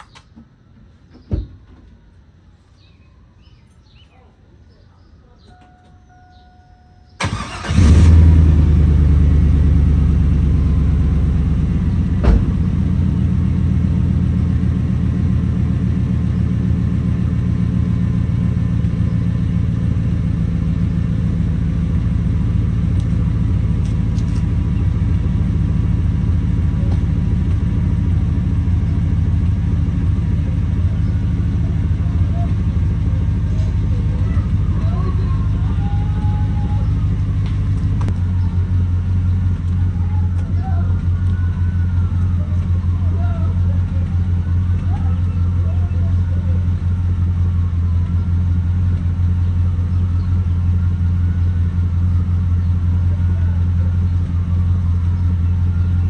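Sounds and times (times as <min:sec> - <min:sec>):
truck engine starting and idling: 0:05.7 - 0:56.0.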